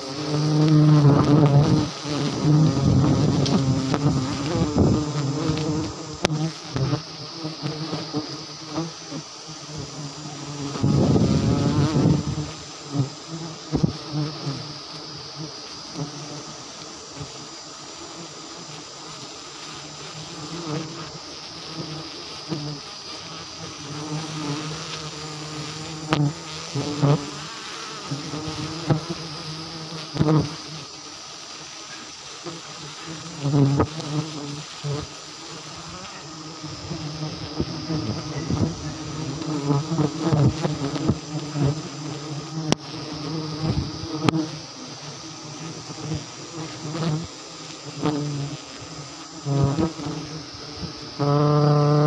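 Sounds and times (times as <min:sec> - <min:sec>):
bees buzzing: 0:00.0 - 0:52.0.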